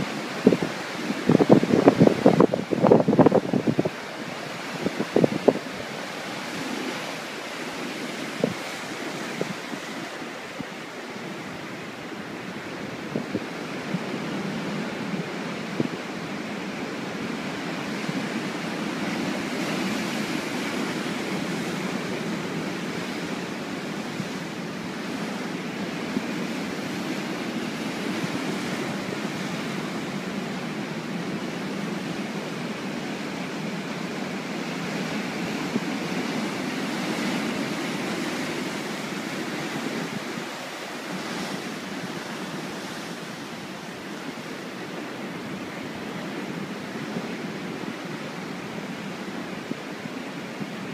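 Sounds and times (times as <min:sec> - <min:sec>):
waves breaking on rocks: 0:00.0 - 0:50.9.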